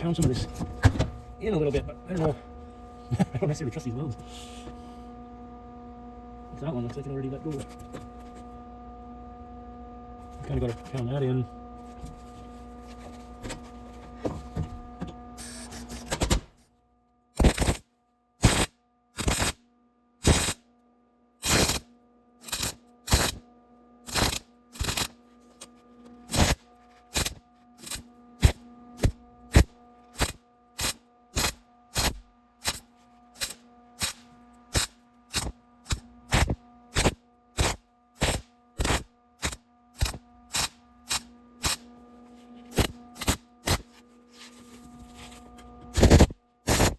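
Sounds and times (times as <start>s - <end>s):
steady hum: 0.0s - 46.9s.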